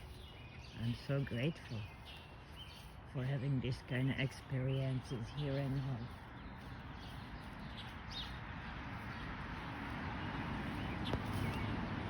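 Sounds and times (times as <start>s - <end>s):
steady outdoor background hiss: 0.0s - 12.0s.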